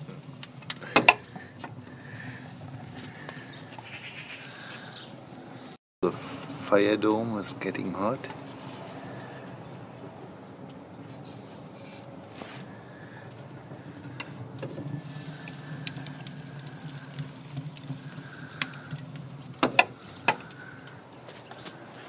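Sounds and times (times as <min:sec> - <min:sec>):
fire crackling and popping: 0:00.0 - 0:05.6, 0:06.3 - 0:22.0.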